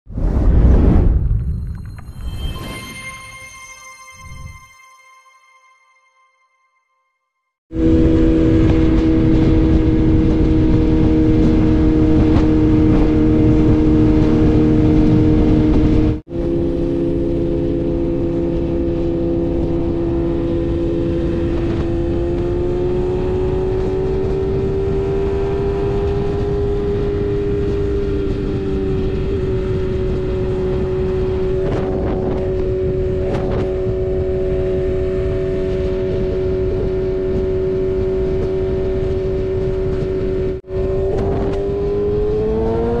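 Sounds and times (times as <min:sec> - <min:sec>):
motorcycle engine cruising: 0:07.8 - 0:43.0.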